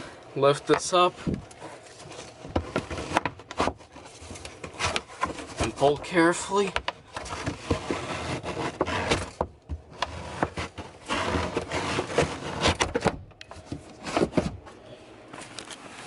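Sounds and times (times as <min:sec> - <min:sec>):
fabric lining rustling and scraping: 0:00.4 - 0:09.4, 0:10.0 - 0:14.5.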